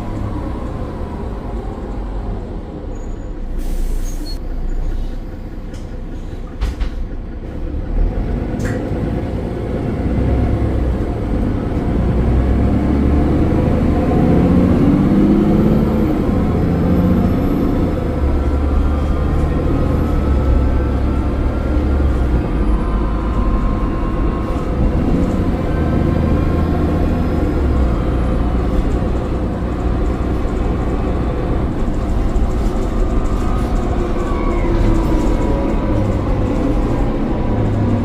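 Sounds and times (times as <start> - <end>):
bus diesel engine running: 0.0 - 38.0.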